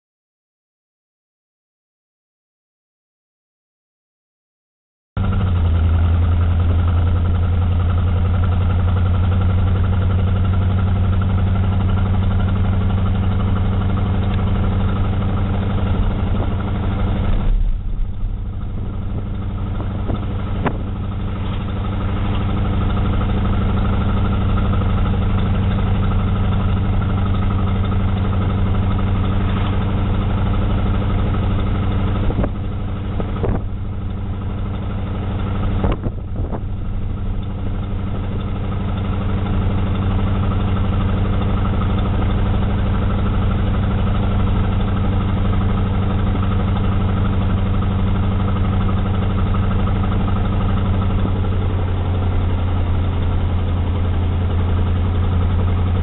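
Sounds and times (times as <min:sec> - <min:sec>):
car engine droning inside car: 0:05.2 - 0:56.0.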